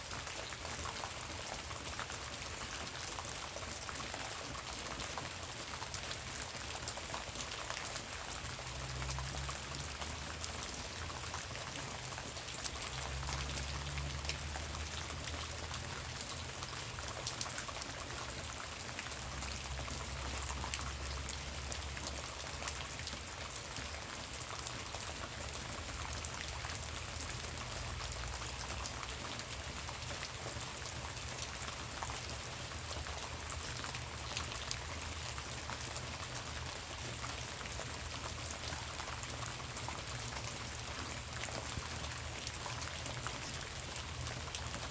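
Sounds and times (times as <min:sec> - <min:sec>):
light rain dripping in woodland: 0:00.0 - 0:44.9.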